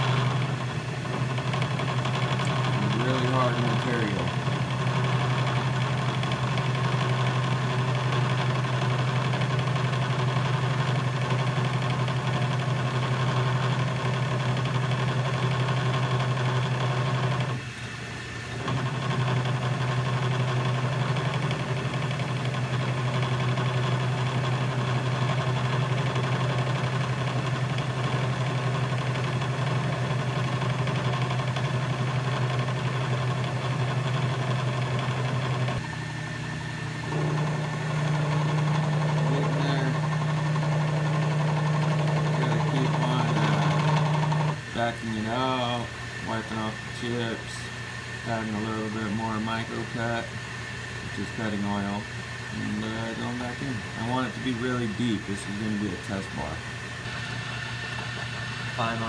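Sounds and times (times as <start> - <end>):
drill cutting into metal bar: 0.0 - 50.3, 51.1 - 59.0
metal lathe motor humming: 0.0 - 59.0.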